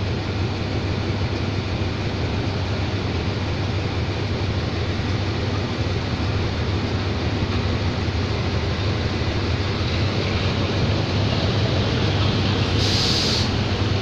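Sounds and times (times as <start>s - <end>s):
constant rushing noise: 0.0s - 14.0s
locomotive engine hum: 0.0s - 14.0s.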